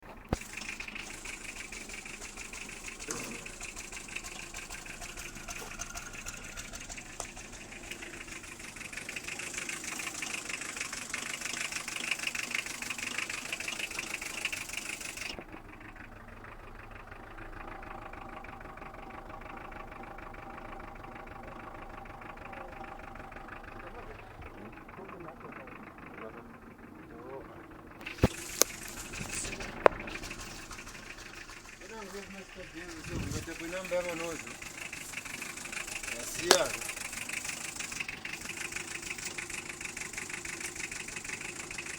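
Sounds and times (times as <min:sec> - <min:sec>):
diesel engine idling roughly: 0:00.0 - 0:41.9.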